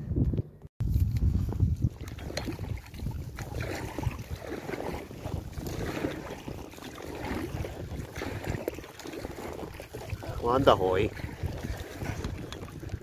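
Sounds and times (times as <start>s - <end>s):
water swishing along hull: 1.3s - 13.0s
paddle strokes splashing: 1.8s - 13.0s.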